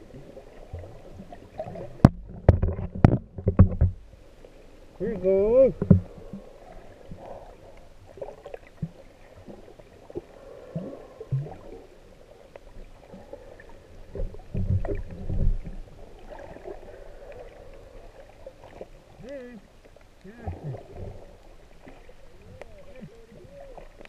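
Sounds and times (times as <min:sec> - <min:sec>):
water gurgling underwater: 0:00.0 - 0:04.2, 0:05.5 - 0:19.4, 0:20.2 - 0:24.0.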